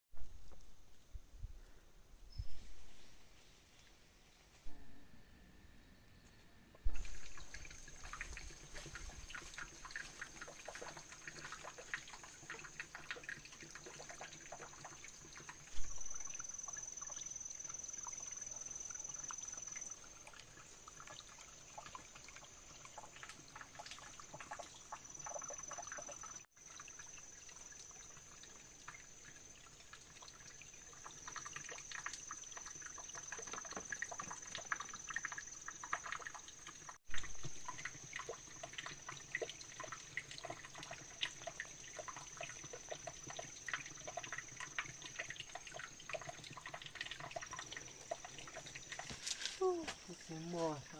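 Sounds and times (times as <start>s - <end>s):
water splashing and trickling: 6.8s - 50.9s.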